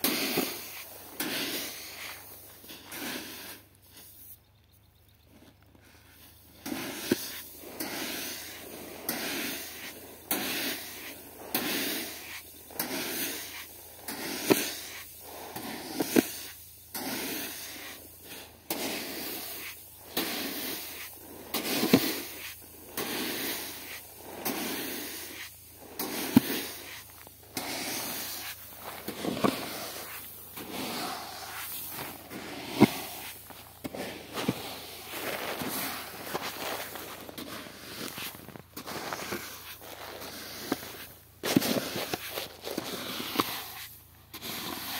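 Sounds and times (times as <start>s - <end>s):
grain sliding hiss: 0.0s - 44.9s.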